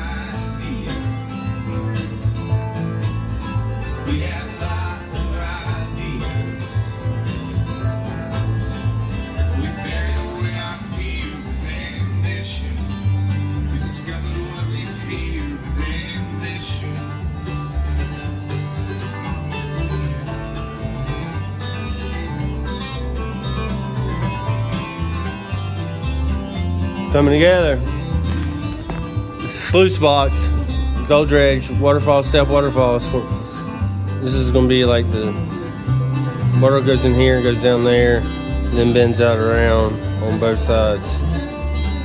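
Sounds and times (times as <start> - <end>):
banjo: 0.0 - 42.0
bass line: 0.0 - 42.0
guitar: 0.0 - 42.0.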